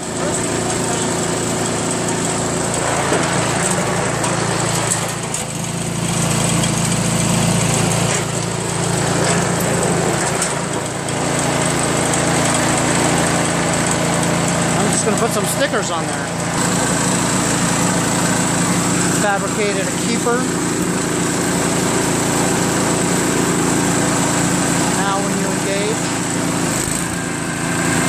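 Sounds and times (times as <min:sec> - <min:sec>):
snowblower engine running: 0:00.0 - 0:28.0.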